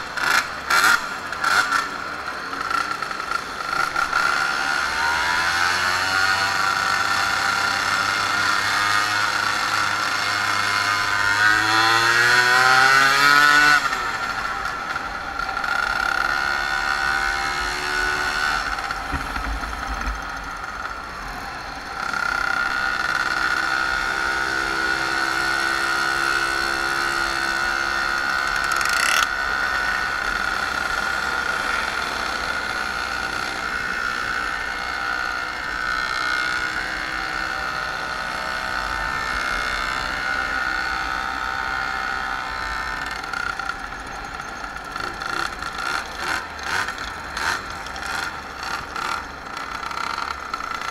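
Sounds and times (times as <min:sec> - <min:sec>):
moped engines droning: 0:00.0 - 0:50.9.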